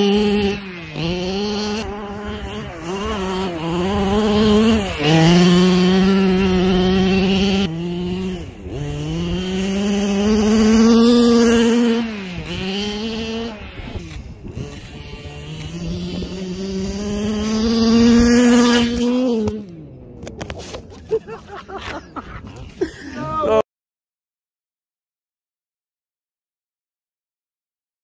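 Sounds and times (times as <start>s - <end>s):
two-stroke engine revving: 0.0s - 23.3s.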